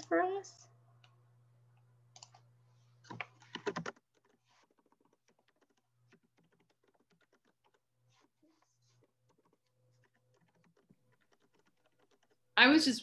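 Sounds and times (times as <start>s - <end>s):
keyboard typing: 2.1s - 12.6s.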